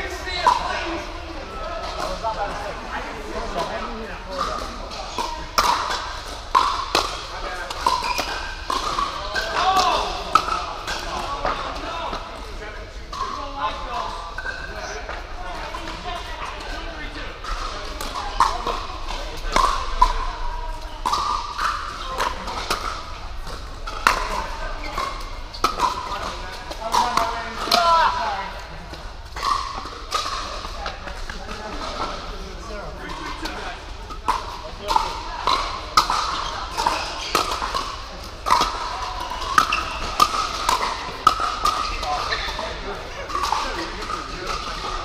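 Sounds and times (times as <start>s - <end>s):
paddles striking plastic balls: 0.1s - 45.0s.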